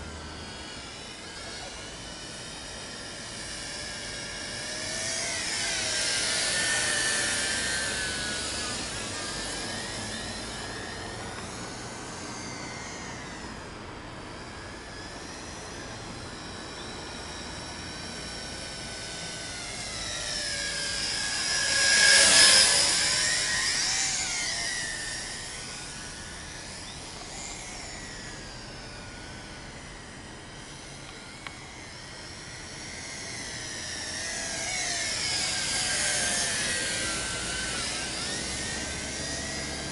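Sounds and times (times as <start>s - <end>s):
drone rotors whining: 0.0s - 39.9s.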